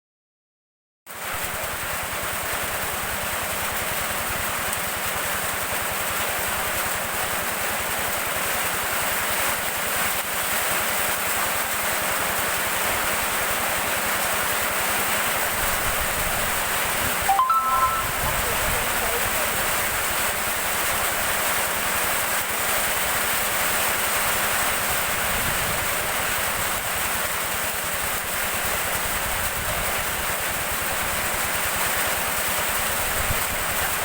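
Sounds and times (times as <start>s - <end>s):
heavy rain falling: 1.2s - 34.0s.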